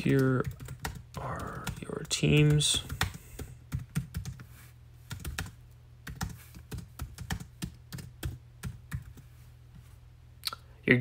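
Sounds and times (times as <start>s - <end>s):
laptop keyboard typing: 0.0s - 9.3s.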